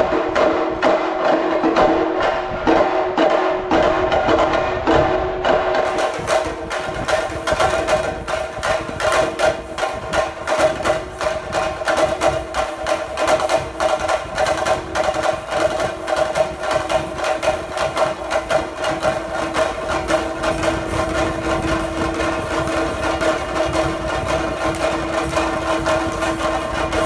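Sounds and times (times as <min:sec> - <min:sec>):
fast dense drumming: 0:00.0 - 0:27.0.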